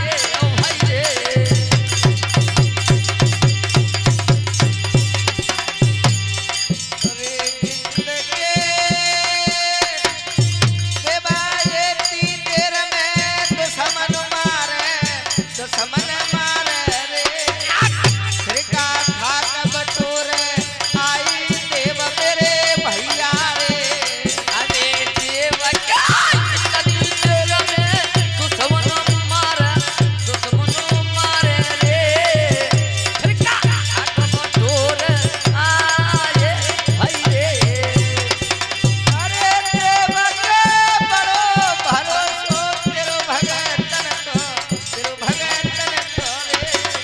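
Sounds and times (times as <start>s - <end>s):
drum beats: 0.0s - 47.0s
jingling hand percussion: 0.0s - 47.0s
man singing devotional song: 0.0s - 47.0s.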